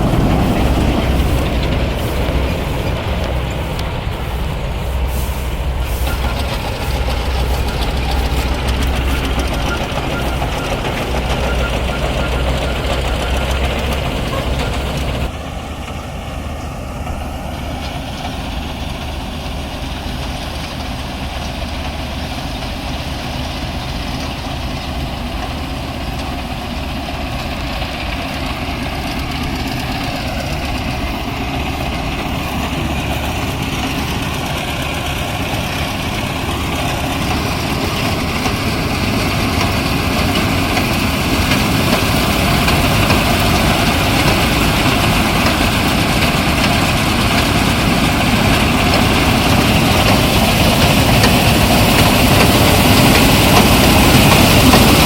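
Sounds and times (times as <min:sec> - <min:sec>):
heavy farm machine engine: 0:00.0 - 0:55.0.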